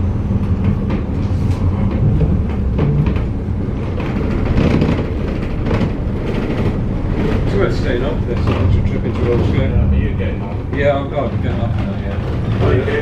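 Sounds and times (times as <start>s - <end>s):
bus engine running at low revs: 0.0s - 13.0s
knocks and rattles: 0.4s - 13.0s.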